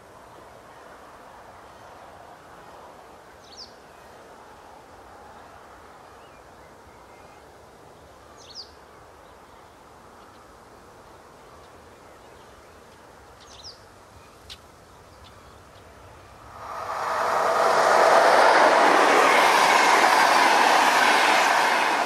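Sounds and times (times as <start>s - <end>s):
faint open-air hiss: 0.0s - 22.0s.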